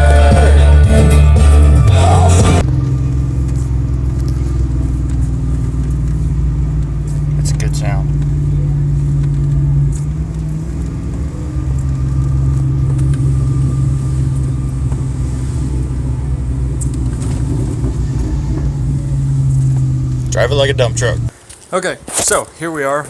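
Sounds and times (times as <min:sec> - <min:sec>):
vehicle engine droning: 0:00.0 - 0:21.3.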